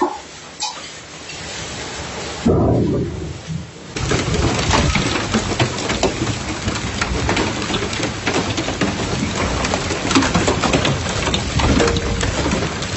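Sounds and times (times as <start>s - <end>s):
heavy rain pouring: 0.0s - 12.9s
raindrops tapping hard surfaces: 0.6s - 12.9s.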